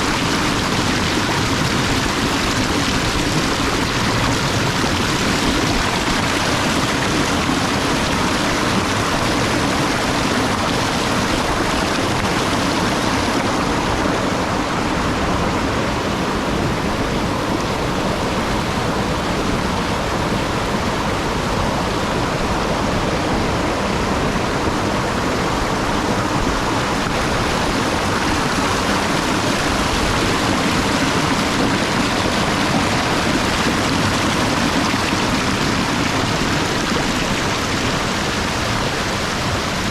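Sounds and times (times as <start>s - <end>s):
waterfall crashing onto rocks: 0.0s - 39.9s.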